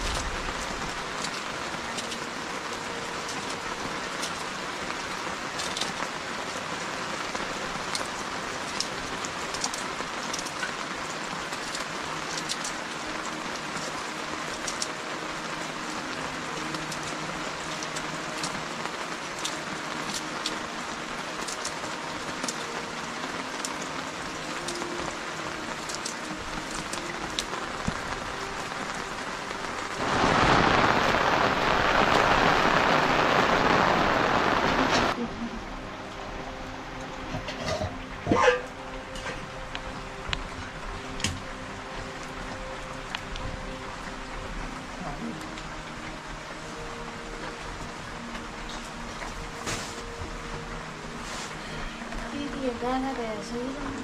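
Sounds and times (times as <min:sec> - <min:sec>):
rain falling: 0:00.0 - 0:54.0
raindrops ticking on surface: 0:00.0 - 0:54.0.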